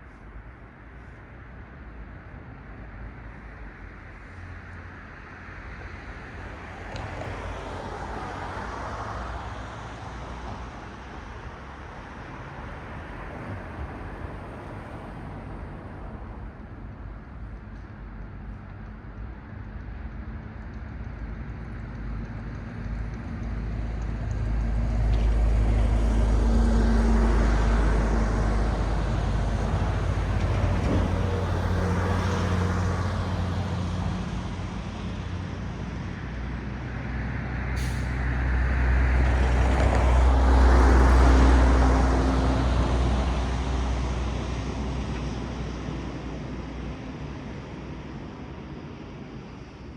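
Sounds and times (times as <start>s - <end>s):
vehicles passing: 4.9s - 49.9s.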